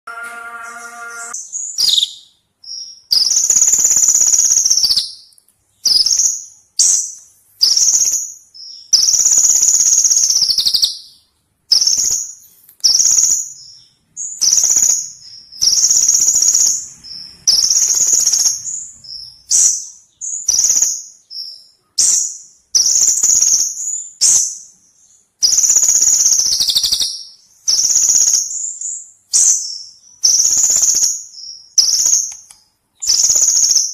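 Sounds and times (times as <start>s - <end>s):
bird buzzy trilling song: 0.1s - 33.9s.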